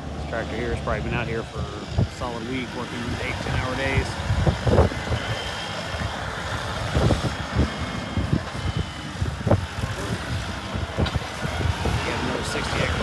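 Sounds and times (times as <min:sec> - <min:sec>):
vehicle engine running: 0:00.0 - 0:13.0
wind buffeting microphone: 0:00.0 - 0:13.0.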